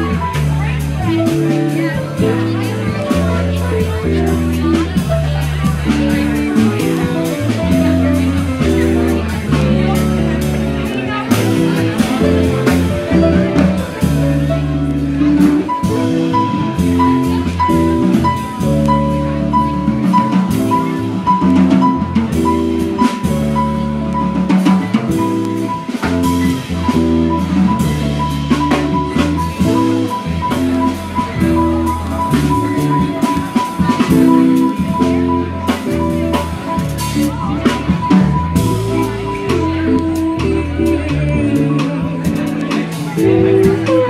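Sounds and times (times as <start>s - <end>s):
drum kit: 0.0s - 44.0s
electric guitar chords: 0.0s - 44.0s
grand piano: 0.0s - 44.0s.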